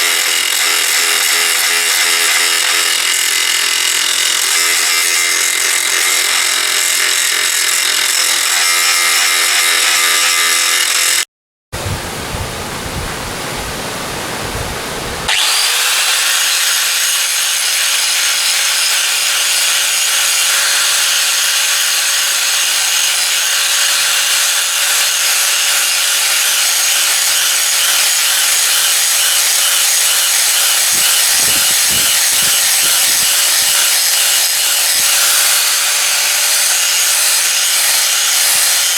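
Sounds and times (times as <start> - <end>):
power tool grinding steel: 0.0 - 11.3, 15.3 - 38.9.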